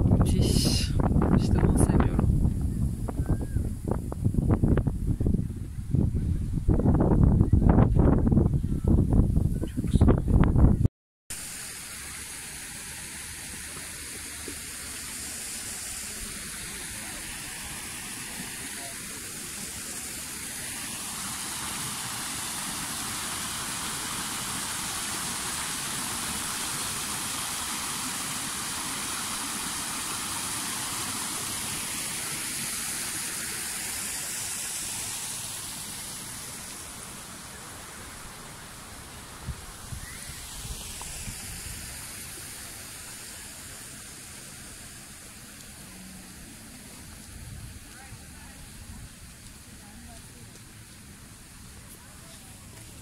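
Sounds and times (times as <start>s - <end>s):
running water hiss: 0.0s - 4.8s, 11.3s - 53.0s.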